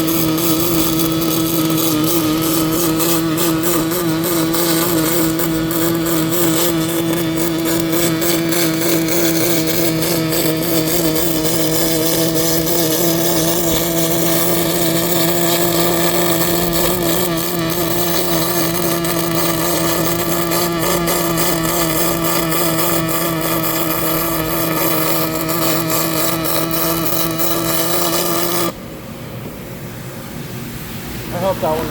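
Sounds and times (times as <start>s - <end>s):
welding arc crackling: 0.0s - 28.8s
electrical hum: 0.0s - 31.9s.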